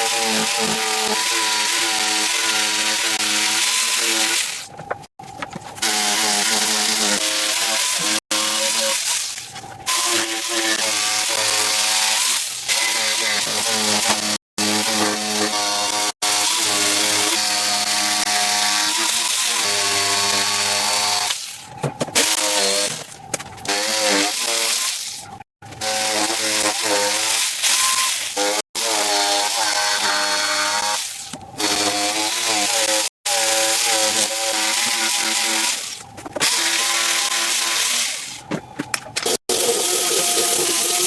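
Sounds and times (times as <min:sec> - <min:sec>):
chainsaw cutting wood: 0:00.0 - 0:04.7, 0:05.8 - 0:09.2, 0:09.9 - 0:21.4, 0:22.2 - 0:23.1, 0:23.7 - 0:24.9, 0:25.6 - 0:38.3.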